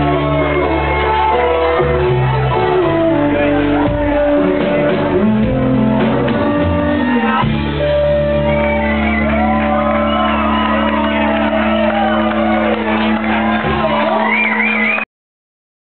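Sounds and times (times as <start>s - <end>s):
live band playing loud: 0.0s - 15.0s.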